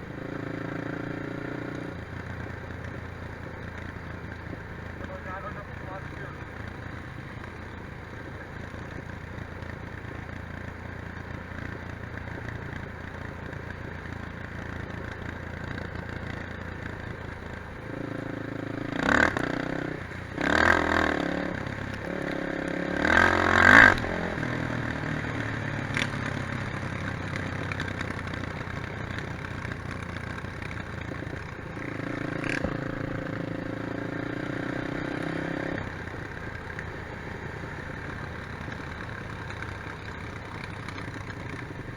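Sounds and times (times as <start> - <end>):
quad bike engines revving: 0.0 - 41.9.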